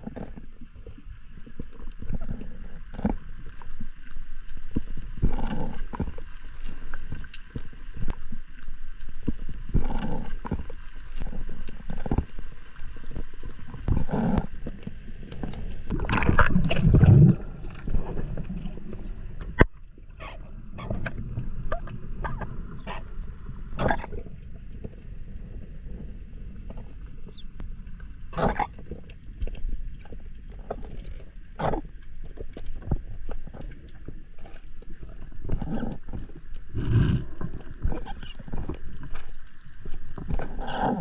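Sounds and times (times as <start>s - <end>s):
water rushing and gurgling underwater: 0.0s - 41.0s.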